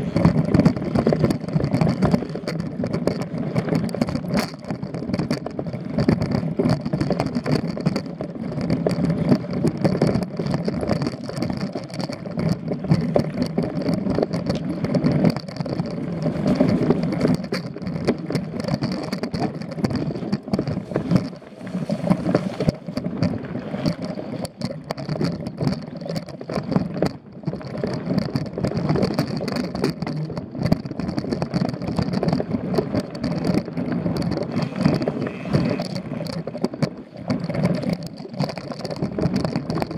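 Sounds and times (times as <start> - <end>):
bike rattling over bumps: 0.0 - 39.9
bike tyres rumbling on dirt: 0.0 - 39.9.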